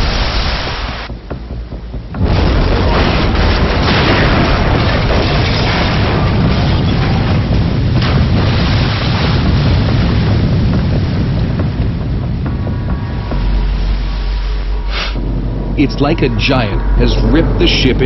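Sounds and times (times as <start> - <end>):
explosion with deep rumble: 0.0 - 14.3, 15.2 - 18.0.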